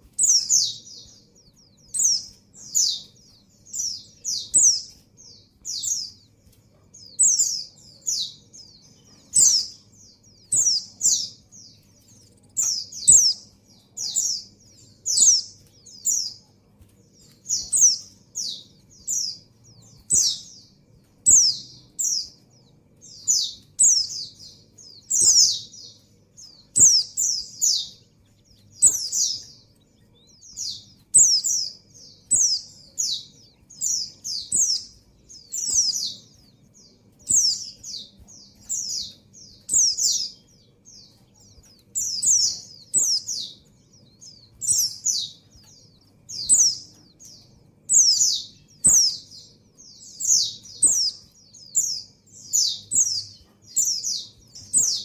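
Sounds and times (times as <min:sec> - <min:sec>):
bird high chirps: 0:00.0 - 0:55.0.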